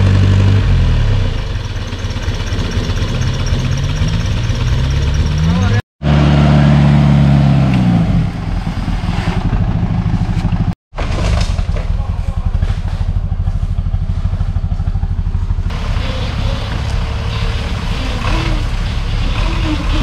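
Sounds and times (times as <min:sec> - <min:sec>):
engine running with rough beat: 0:00.0 - 0:20.0
off-road engine revving: 0:00.0 - 0:20.0.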